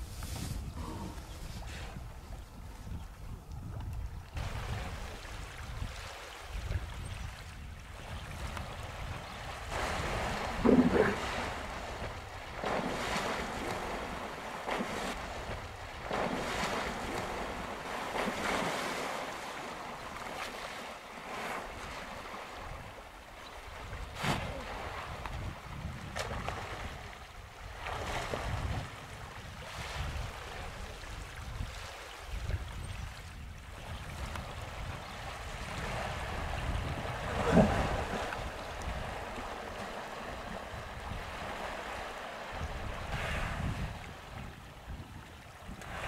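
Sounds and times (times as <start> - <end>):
wind rumbling on microphone: 0.0 - 19.0, 23.6 - 46.0
water splashing and churning: 0.0 - 46.0.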